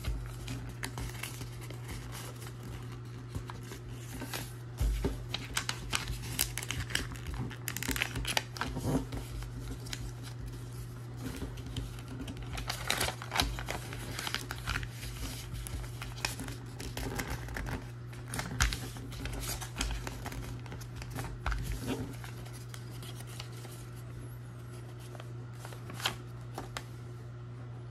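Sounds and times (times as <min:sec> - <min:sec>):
paper rustling and creasing: 0:00.0 - 0:27.0
steady low hum: 0:00.0 - 0:27.9.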